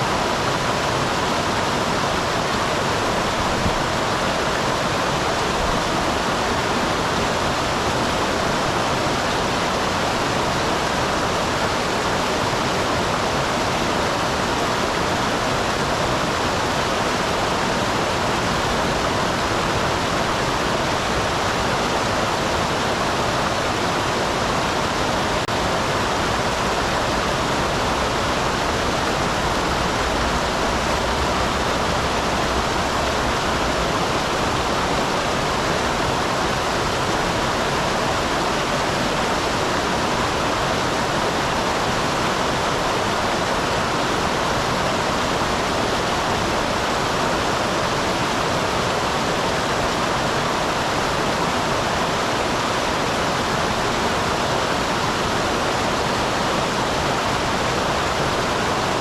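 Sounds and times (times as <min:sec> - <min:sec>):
waterfall splashing and rushing: 0:00.0 - 0:59.0.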